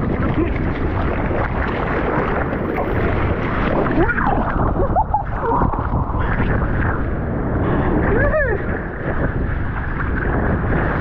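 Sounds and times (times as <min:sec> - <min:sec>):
water gurgles: 0:00.0 - 0:11.0
water sloshing and lapping: 0:00.0 - 0:11.0
wind buffeting microphone: 0:00.0 - 0:11.0.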